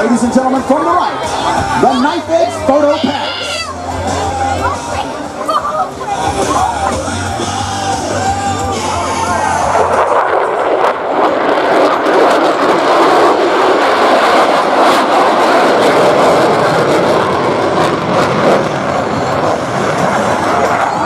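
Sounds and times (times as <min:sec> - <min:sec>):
fighter jet engine roar: 0:00.0 - 0:21.0.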